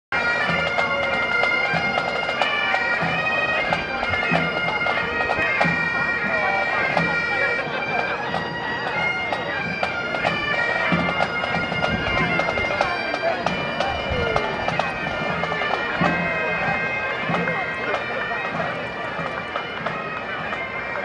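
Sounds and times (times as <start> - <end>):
bagpipes playing a tune: 0.2 - 21.0.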